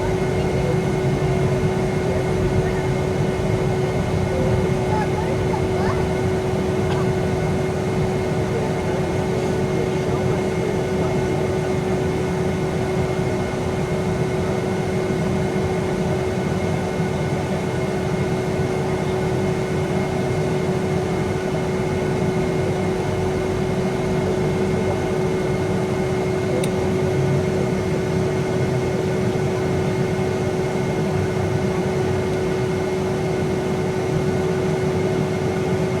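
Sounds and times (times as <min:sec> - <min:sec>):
constant hum: 0:00.0 - 0:36.0.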